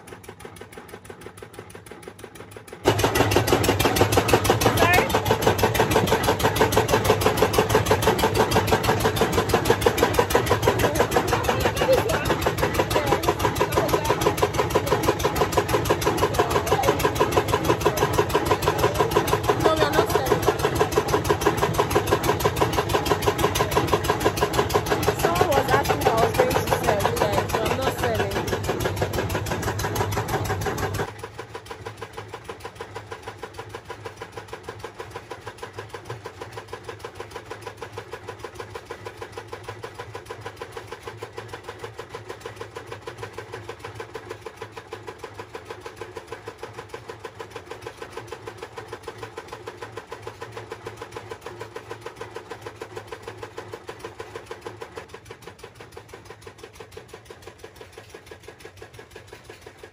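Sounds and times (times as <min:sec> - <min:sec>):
milling machine engine pulsing: 0:00.0 - 0:59.9.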